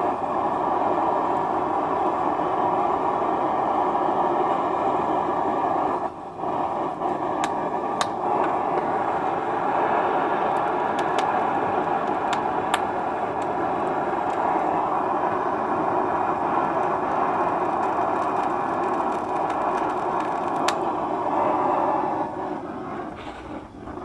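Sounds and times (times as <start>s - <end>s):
gas torch burner running: 0.0s - 24.0s.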